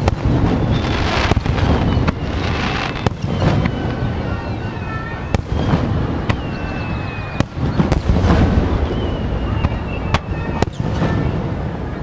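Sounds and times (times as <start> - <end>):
fireworks bursting bangs: 0.0 - 12.0
high whistling tones: 0.0 - 12.0
low rumble of rolling booms: 0.0 - 12.0.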